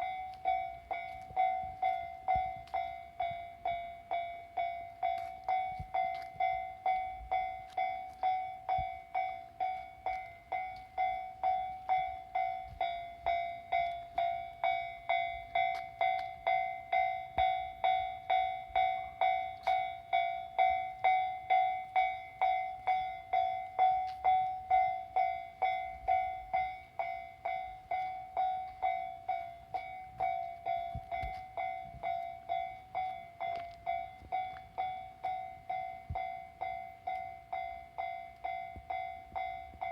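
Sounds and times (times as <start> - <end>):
level crossing bell ringing: 0.0 - 39.9.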